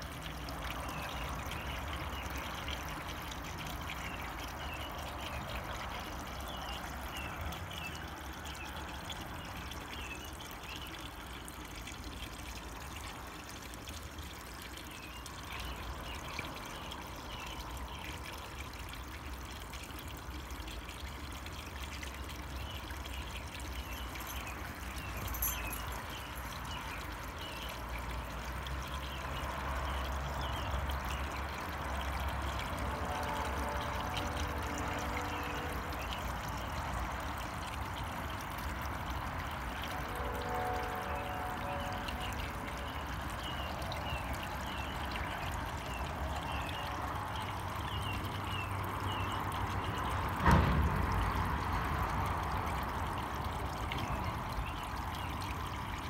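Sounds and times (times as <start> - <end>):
water trickling into pond: 0.0 - 56.0.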